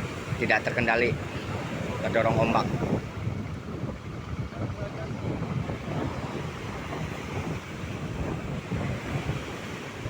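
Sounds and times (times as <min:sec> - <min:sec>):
large waves breaking: 0:00.0 - 0:10.0
wind buffeting microphone: 0:00.0 - 0:10.0.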